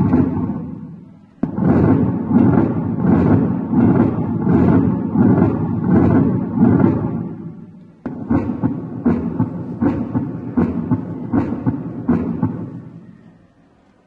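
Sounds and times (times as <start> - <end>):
heartbeat through stethoscope: 0.0 - 13.1.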